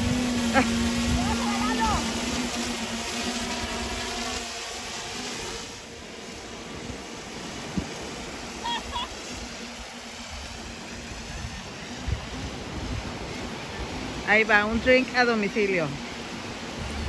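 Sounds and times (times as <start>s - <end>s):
drone propellers humming: 0.0s - 17.0s
surf: 0.0s - 17.0s
wind: 0.0s - 17.0s.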